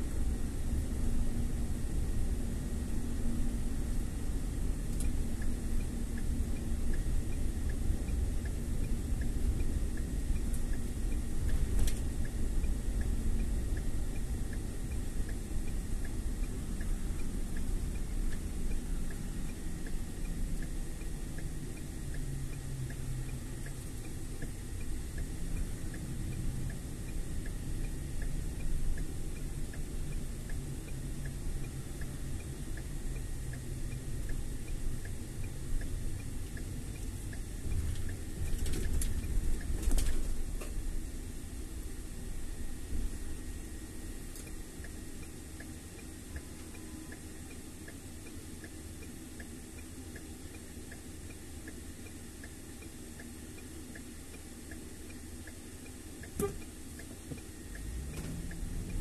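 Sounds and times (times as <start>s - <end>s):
car engine and road rumble: 0.0s - 59.0s
turn signal ticking: 0.0s - 59.0s.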